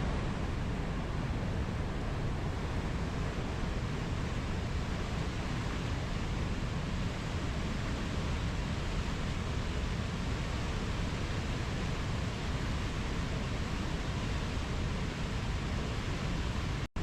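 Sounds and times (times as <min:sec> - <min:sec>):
ocean surf rushing: 0:00.0 - 0:16.9.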